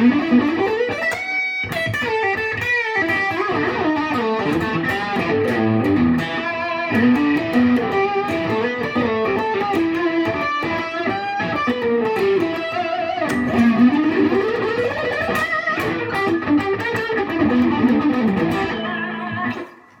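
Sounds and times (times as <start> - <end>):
distorted electric guitar melody: 0.0 - 20.0.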